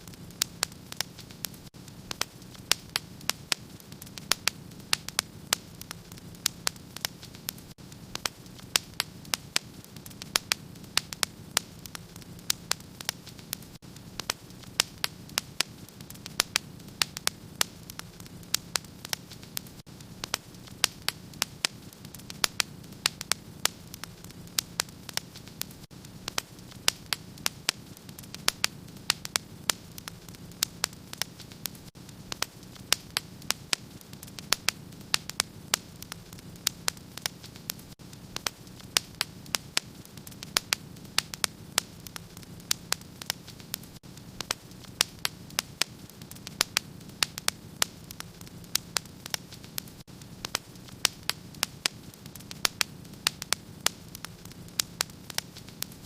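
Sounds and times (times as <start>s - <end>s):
hiss and rumble of flames: 0.0s - 56.0s
wood fire crackling and popping: 0.0s - 56.0s.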